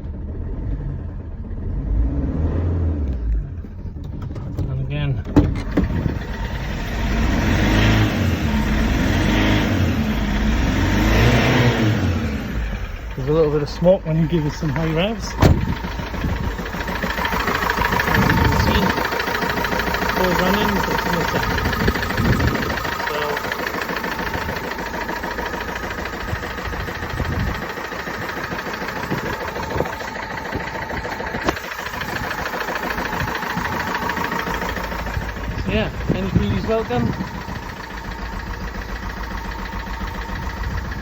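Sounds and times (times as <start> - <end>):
diesel engine revving: 0.0 - 41.0.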